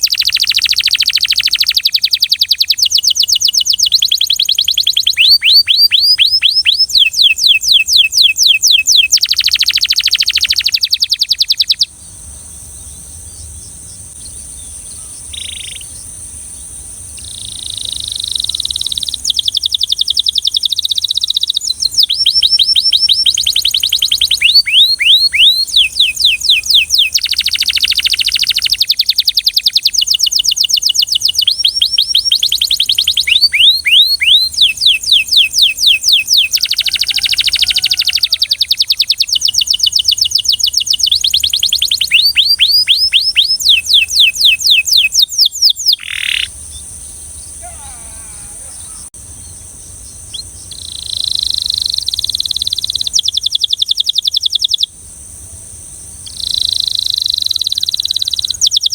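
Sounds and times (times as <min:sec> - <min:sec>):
canary singing: 0:00.0 - 0:12.1, 0:12.7 - 0:16.2, 0:17.1 - 0:54.9, 0:56.2 - 0:58.9.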